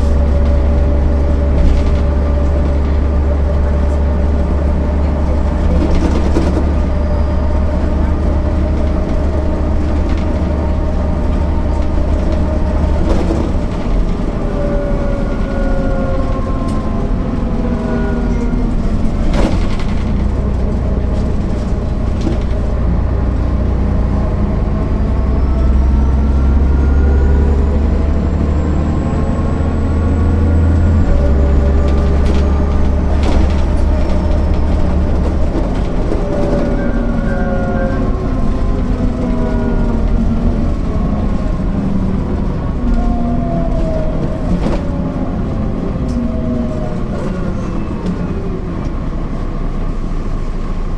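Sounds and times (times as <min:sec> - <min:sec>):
bus diesel engine: 0:00.0 - 0:50.9.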